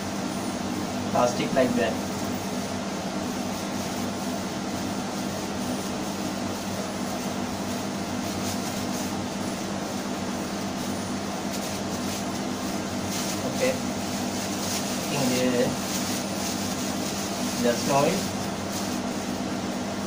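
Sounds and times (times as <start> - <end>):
constant hiss: 0.8 - 20.0.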